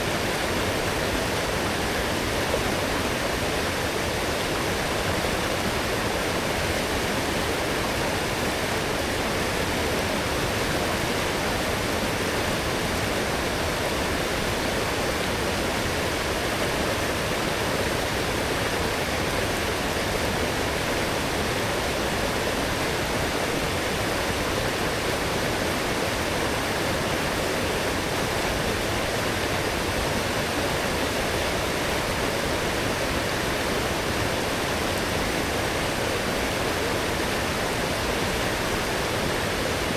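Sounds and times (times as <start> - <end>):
strong stream rushing: 0.0 - 39.9.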